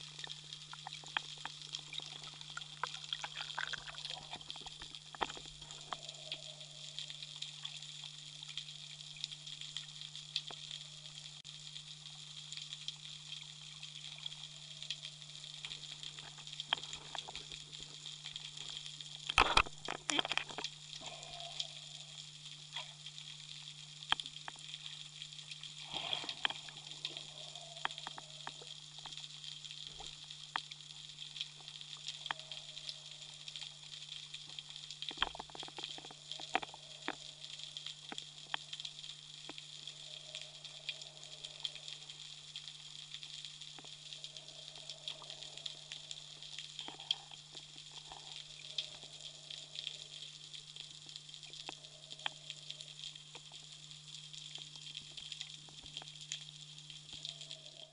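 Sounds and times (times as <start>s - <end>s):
crackle of tiny underwater clicks: 0.0s - 57.9s
steady low hum: 0.0s - 57.9s.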